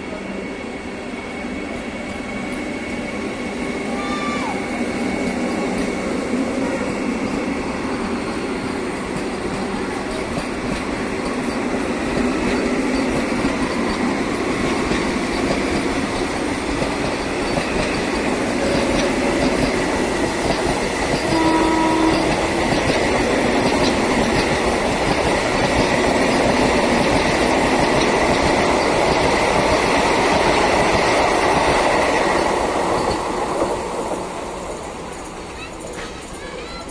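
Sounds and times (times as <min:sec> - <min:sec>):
train wheels rushing on rail: 0:00.0 - 0:36.9
rail-joint clatter: 0:07.3 - 0:36.9.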